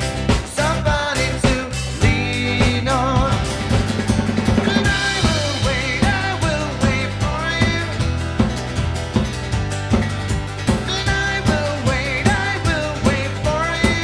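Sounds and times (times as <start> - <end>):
live band playing pop song: 0.0 - 14.0.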